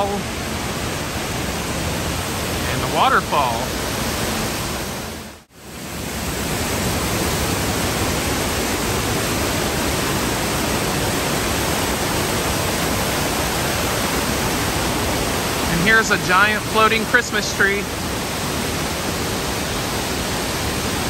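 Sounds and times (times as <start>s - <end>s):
indoor waterfall rushing: 0.0s - 21.0s.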